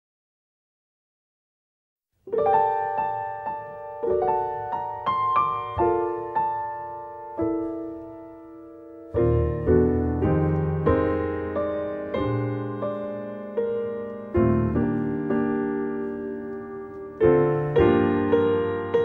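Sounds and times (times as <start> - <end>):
slow piano melody: 2.3 - 19.0.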